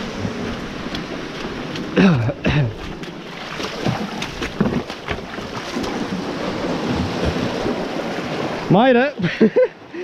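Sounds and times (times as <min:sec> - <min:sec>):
surf washing: 0:00.0 - 0:10.0.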